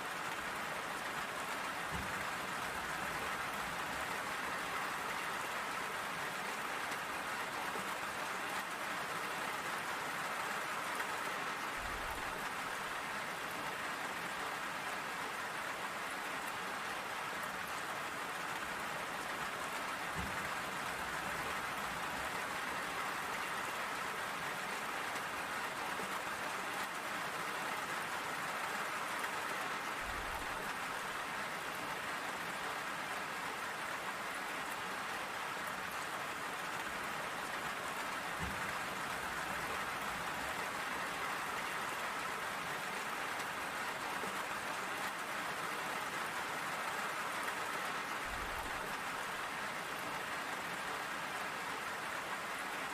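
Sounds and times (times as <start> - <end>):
rain pattering: 0.0 - 52.9.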